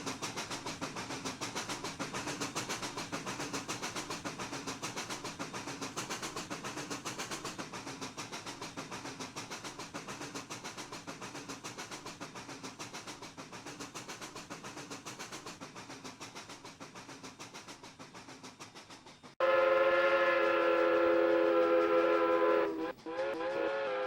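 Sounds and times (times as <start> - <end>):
steam locomotives chuffing: 0.0 - 24.0.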